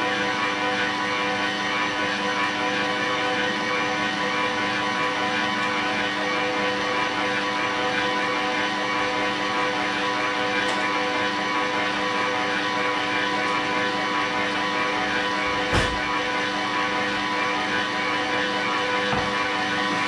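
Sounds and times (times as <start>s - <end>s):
stand mixer motor humming: 0.0s - 20.0s.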